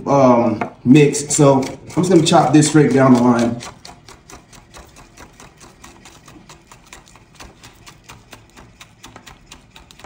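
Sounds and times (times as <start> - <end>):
knife chopping on wooden board: 0.5 - 10.0.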